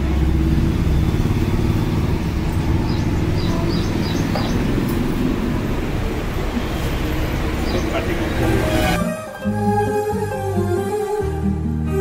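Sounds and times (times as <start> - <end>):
passing vehicles rumbling: 0.0 - 9.6.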